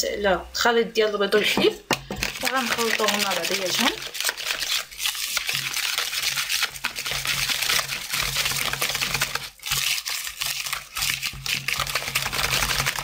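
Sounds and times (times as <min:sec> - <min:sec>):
whisk beating batter in bowl: 0:02.0 - 0:13.0.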